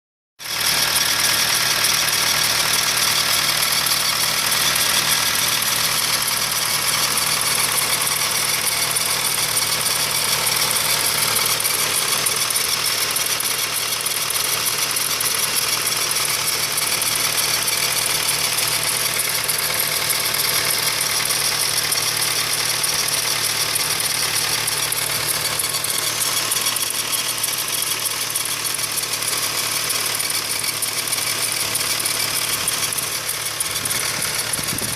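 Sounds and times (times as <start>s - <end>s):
car engine idling: 0.5s - 34.9s
noise from engine bay: 0.9s - 34.9s.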